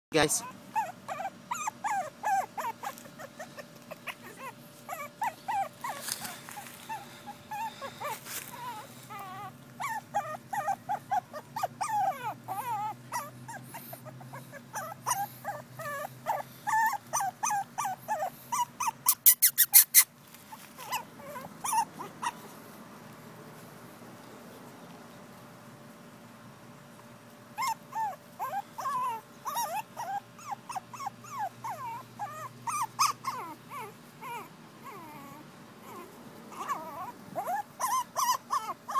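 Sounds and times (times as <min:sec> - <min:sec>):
puppies whimpering and whining: 0:00.2 - 0:22.6, 0:27.5 - 0:38.9.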